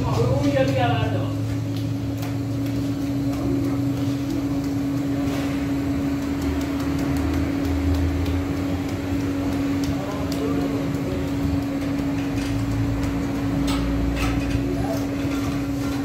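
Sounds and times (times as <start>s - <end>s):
mechanical hum with low rumble: 0.0s - 16.0s.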